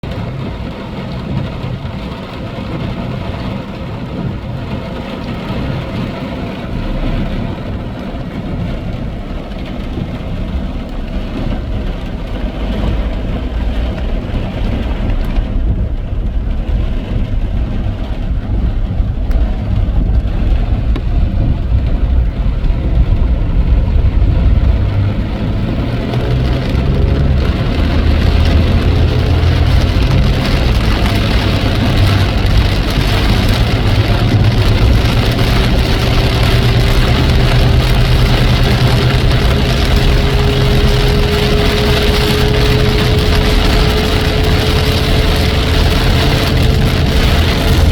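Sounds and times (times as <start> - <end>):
heavy rain: 0.0 - 47.9
steady low rumble: 0.0 - 47.9.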